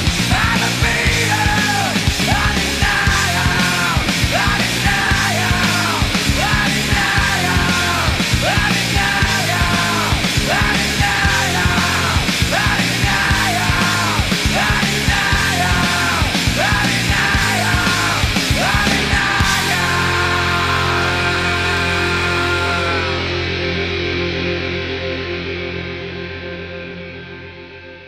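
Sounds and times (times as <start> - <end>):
heavy rock music: 0.0 - 28.0.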